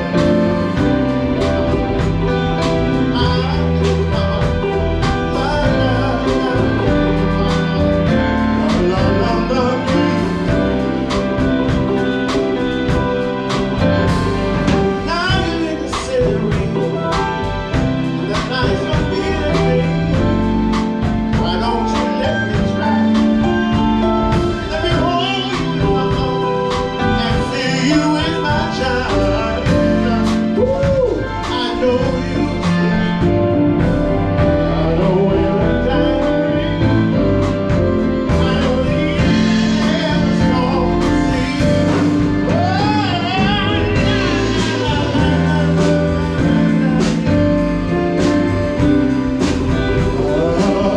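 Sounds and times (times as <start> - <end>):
live band playing: 0.0 - 50.9
person singing: 0.0 - 50.9.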